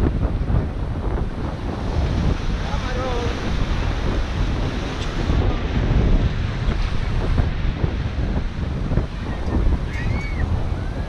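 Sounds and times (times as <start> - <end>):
surf breaking on rocks: 0.0 - 11.0
wind rumbling on microphone: 0.0 - 11.0.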